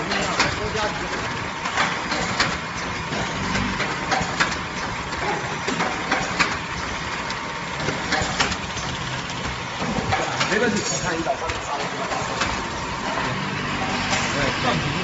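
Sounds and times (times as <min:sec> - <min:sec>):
packing machine whirring and clacking: 0:00.0 - 0:15.0.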